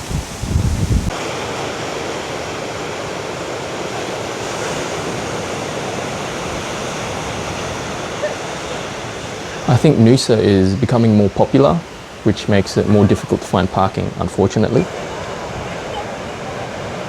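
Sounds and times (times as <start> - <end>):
ocean surf: 0.0 - 17.0
wind buffeting microphone: 0.0 - 17.0.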